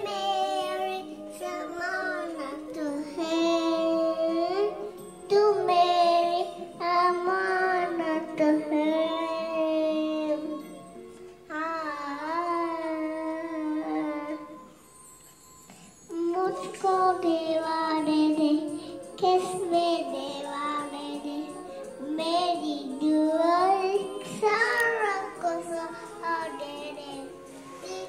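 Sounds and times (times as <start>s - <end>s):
girl singing into karaoke microphone: 0.0s - 10.7s, 11.5s - 14.8s, 15.7s - 28.0s.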